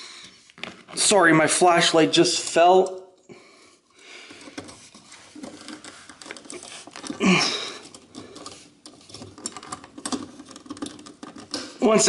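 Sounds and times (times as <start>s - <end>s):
wires rustling and scraping: 0.0s - 12.0s.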